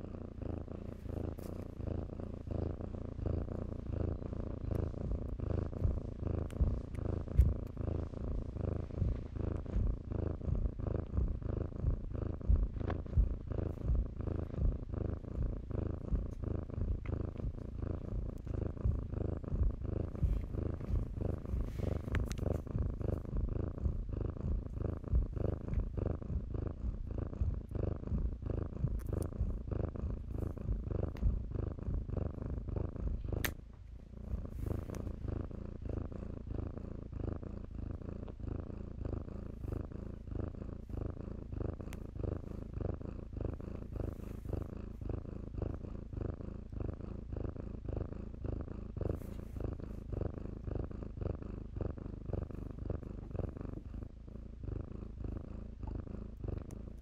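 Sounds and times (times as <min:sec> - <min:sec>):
kitten purring: 0:00.0 - 0:57.0.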